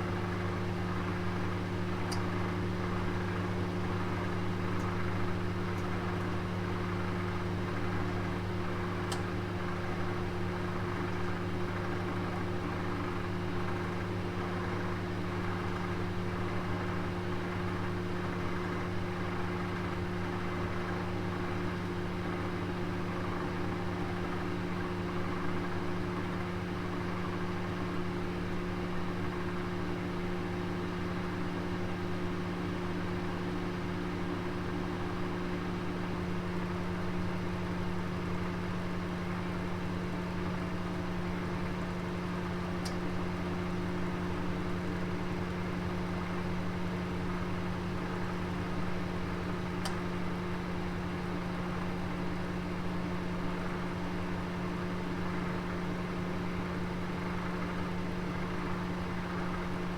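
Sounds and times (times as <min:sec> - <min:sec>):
oven humming and whirring: 0:00.0 - 0:59.9.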